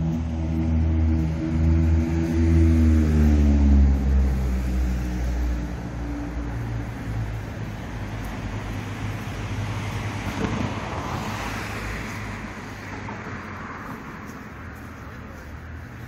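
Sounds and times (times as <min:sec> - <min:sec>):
car passing tyre noise: 0:00.0 - 0:16.0
low engine hum: 0:00.0 - 0:16.0.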